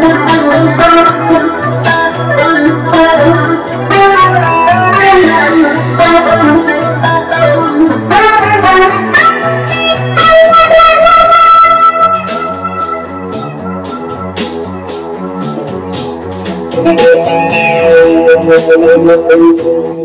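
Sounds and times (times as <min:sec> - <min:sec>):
electric guitar: 0:00.0 - 0:20.0
electronic organ keyboard: 0:00.0 - 0:20.0.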